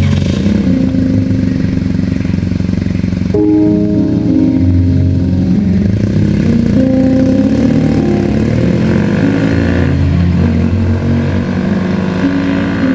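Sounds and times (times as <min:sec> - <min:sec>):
motorcycle engine revving: 0:00.0 - 0:12.9.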